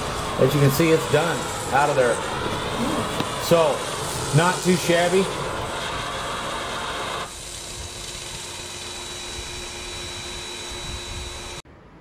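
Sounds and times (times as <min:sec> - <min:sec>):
pressure cleaner spraying: 0:00.0 - 0:11.5.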